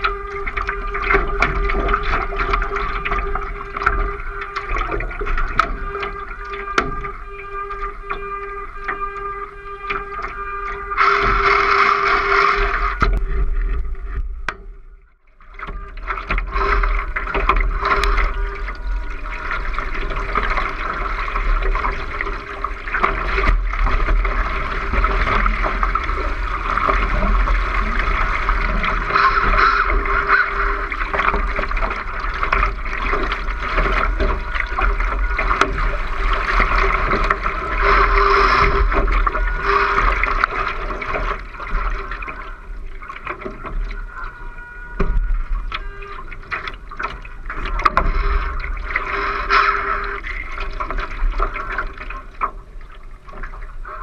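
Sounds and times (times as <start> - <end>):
water rushing along boat hull: 0.0 - 54.0.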